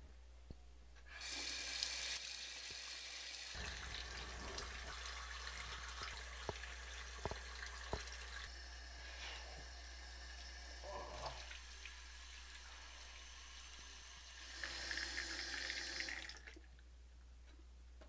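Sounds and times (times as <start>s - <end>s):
sink faucet running: 1.1s - 16.7s.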